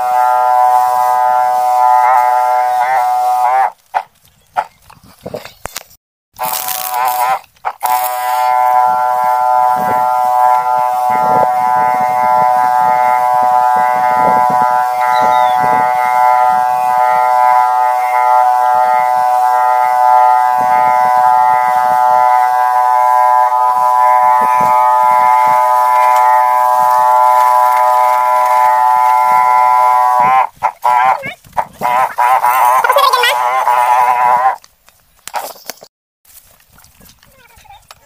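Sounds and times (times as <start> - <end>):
motorised sprayer humming: 0.0 - 3.6, 6.4 - 34.6.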